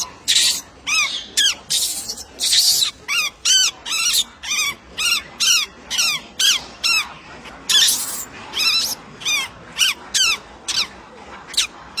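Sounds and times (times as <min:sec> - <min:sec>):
monkey squealing calls: 0:00.0 - 0:07.1, 0:07.7 - 0:10.9, 0:11.5 - 0:11.7.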